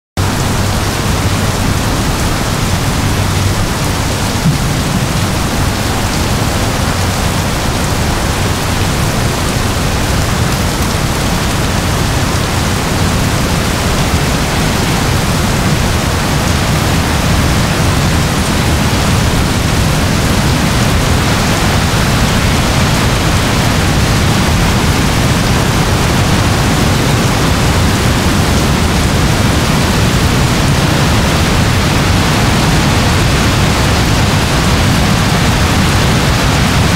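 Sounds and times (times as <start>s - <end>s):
heavy rain: 0.2s - 36.9s.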